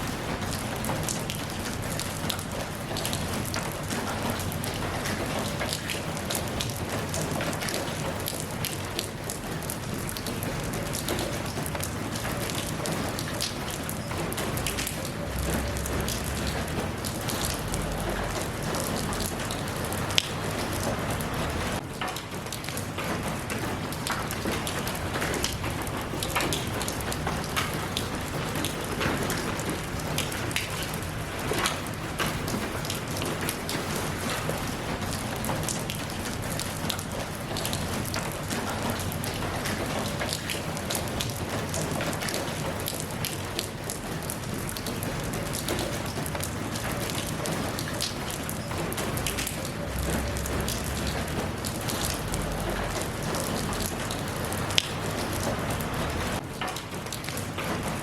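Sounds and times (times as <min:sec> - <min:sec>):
raindrops striking a surface: 0:00.0 - 0:58.0
steady rain falling: 0:00.0 - 0:58.0.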